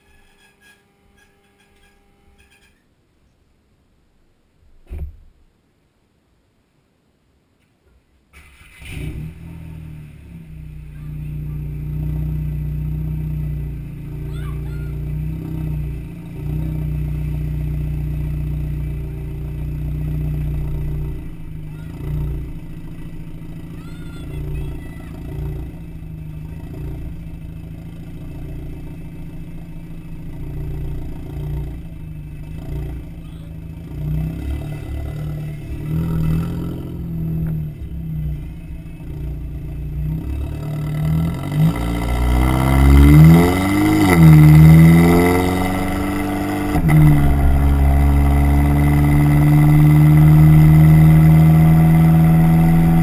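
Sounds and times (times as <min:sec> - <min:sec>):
car engine revving: 0:08.4 - 0:53.0.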